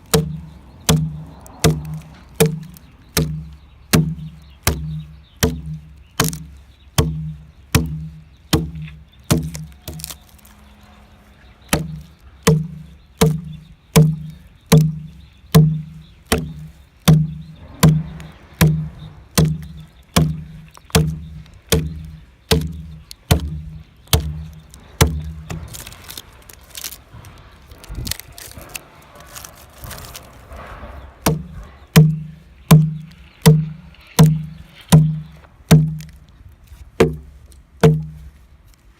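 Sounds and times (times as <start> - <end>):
hand tool chopping log: 0.0 - 10.4, 11.7 - 26.2, 31.2 - 36.3, 37.0 - 38.4.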